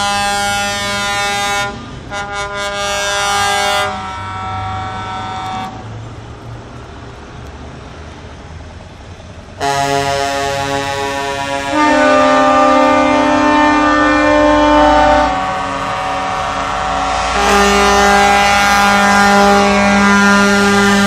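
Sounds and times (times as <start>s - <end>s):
truck air horn blasts: 0.0s - 5.9s, 9.6s - 21.0s
truck engines rumbling: 0.0s - 21.0s.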